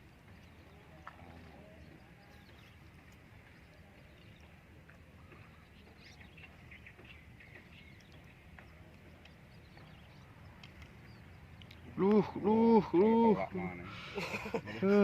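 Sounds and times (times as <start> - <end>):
faint bird chirps: 0.1 - 12.4.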